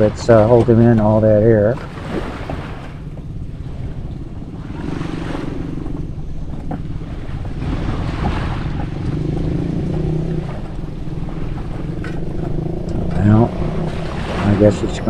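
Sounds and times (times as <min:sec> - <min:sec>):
engine drone: 0:00.0 - 0:15.0
waves washing: 0:00.0 - 0:15.0
wind: 0:00.0 - 0:15.0.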